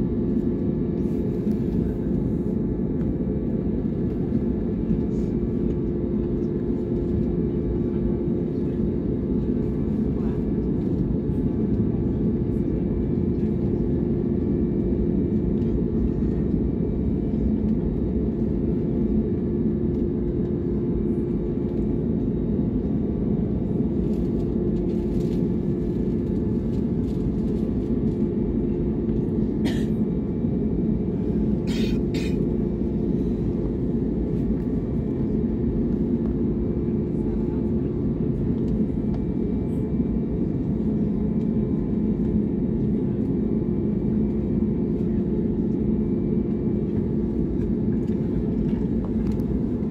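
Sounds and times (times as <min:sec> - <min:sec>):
airliner cabin rumble and hum: 0:00.0 - 0:49.9.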